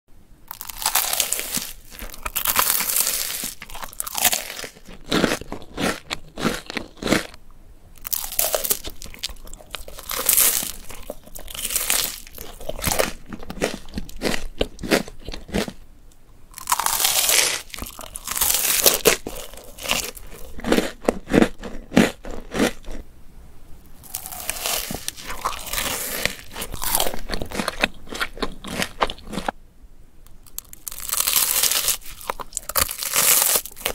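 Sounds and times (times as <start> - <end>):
chewing crunchy cereal bar: 0.5 - 7.4, 8.0 - 15.8, 16.5 - 23.0, 24.0 - 29.6, 30.4 - 33.9.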